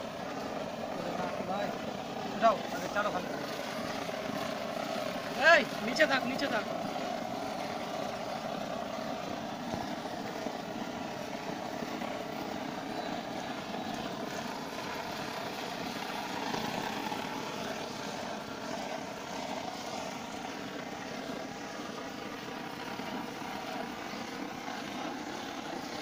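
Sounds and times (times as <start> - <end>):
blowlamp flame hissing: 0.0 - 26.0.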